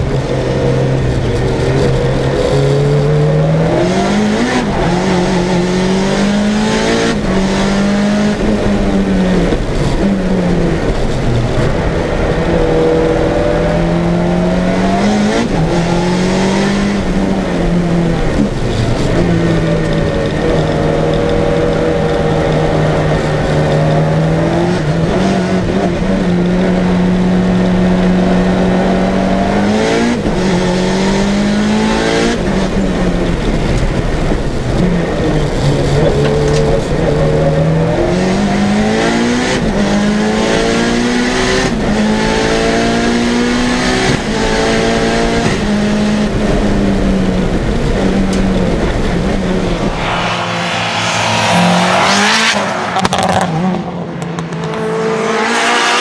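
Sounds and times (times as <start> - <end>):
turbocharged car engine revving: 0.0 - 56.0.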